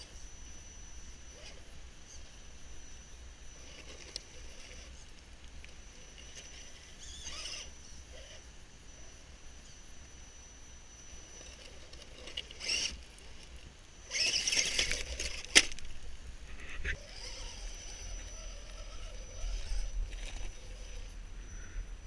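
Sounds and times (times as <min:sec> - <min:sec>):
faint high whine: 0:00.0 - 0:22.0
small electric motor whirring: 0:00.0 - 0:22.0.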